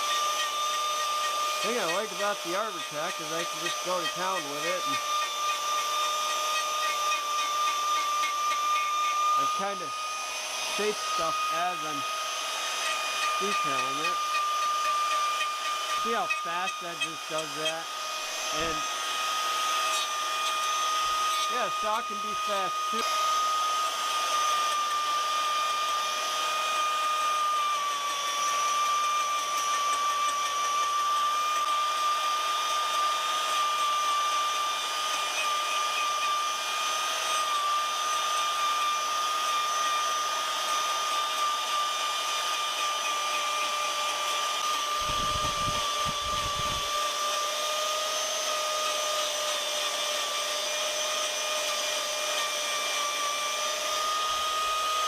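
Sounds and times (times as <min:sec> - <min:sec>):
power carving tool whine: 0:00.0 - 0:55.0.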